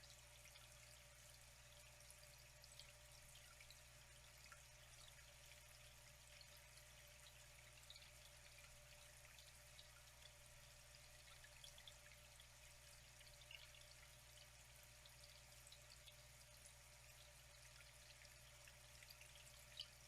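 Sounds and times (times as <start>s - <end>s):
water drips and splashes: 0.0s - 20.0s
water trickling: 0.0s - 20.0s.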